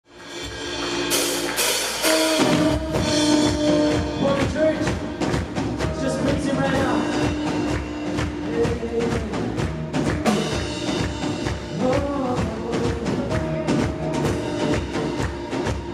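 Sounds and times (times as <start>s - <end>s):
drums and bass beat: 0.0s - 15.9s
worship band playing: 0.1s - 15.9s.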